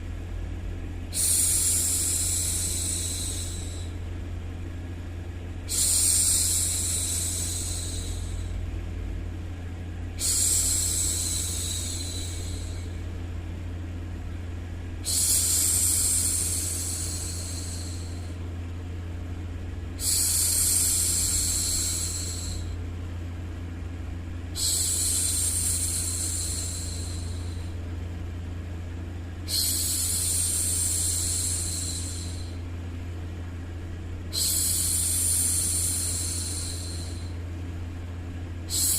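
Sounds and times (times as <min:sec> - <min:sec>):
white noise with low hum: 0:00.0 - 0:38.9.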